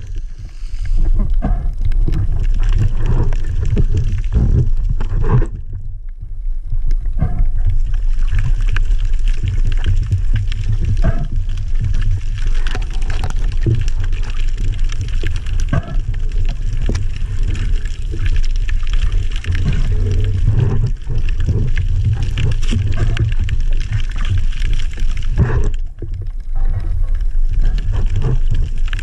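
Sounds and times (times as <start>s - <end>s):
faint clicks and knocks: 0.0s - 29.0s
underwater low rumble: 0.0s - 29.0s.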